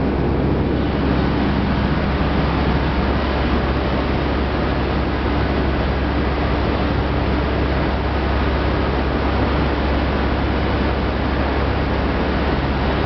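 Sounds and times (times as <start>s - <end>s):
milling machinery running: 0.0s - 13.0s.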